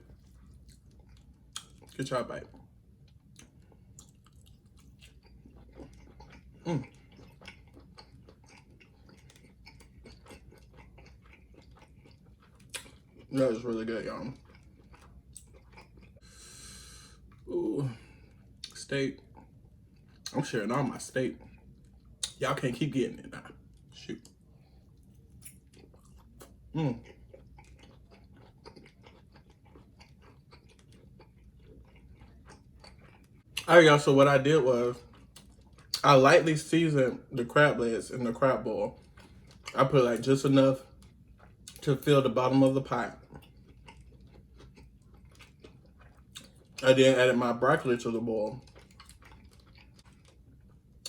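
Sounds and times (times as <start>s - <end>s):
person chewing food: 0.0s - 20.4s, 21.0s - 22.4s, 23.4s - 33.7s, 35.0s - 36.0s, 38.9s - 46.9s, 48.5s - 51.0s.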